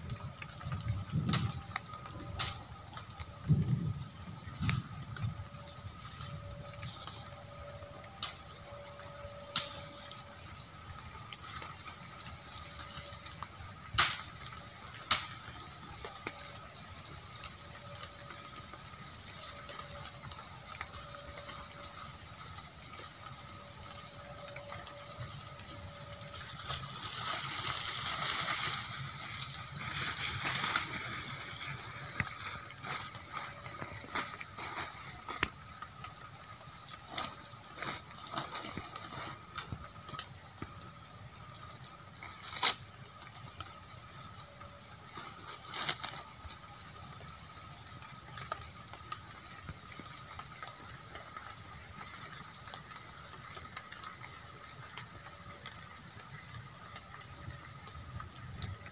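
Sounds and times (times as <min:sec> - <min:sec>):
rustling leaves and grass: 0:00.0 - 0:58.9.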